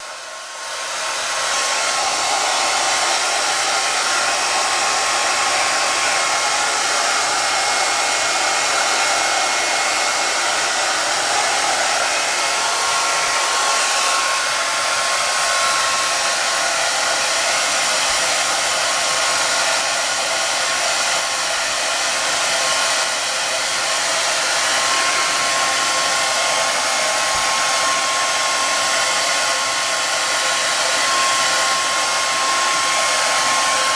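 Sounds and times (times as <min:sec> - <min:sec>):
hair dryer blowing: 0:00.0 - 0:33.9.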